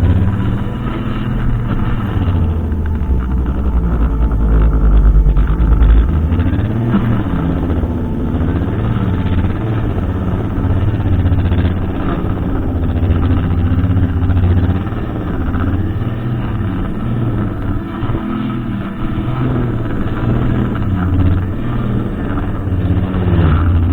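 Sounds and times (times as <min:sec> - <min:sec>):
brushcutter engine running: 0:00.0 - 0:23.9.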